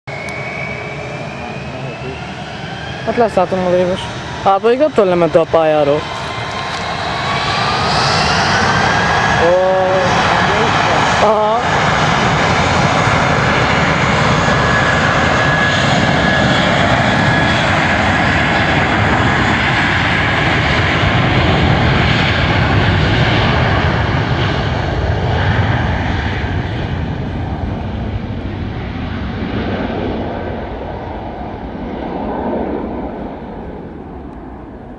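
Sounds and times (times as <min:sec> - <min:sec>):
jet airliner taking off: 0:00.1 - 0:34.9.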